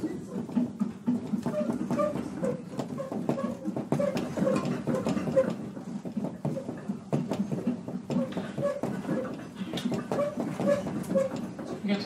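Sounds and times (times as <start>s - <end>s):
train car rattling and creaking: 0.0s - 12.0s.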